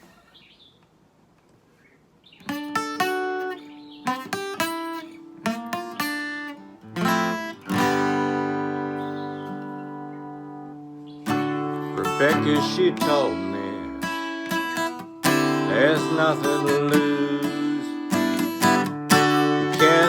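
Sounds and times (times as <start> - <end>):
acoustic guitar picked chords: 2.4 - 20.0.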